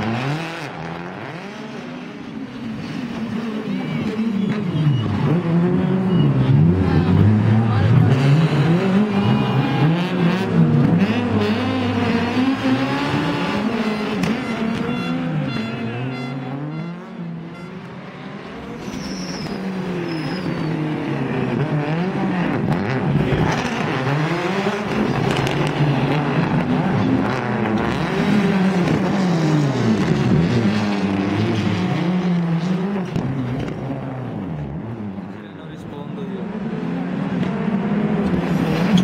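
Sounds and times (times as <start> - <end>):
rally car engine revving hard: 0.0 - 2.3, 4.6 - 17.3, 18.3 - 35.0.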